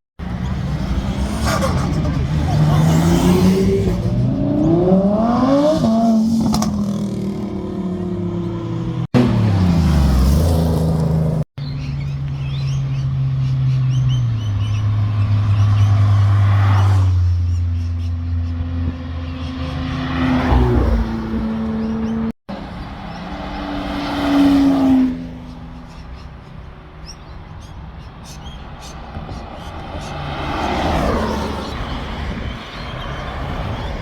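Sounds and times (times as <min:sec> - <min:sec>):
sports car engines accelerating: 0:00.2 - 0:27.7.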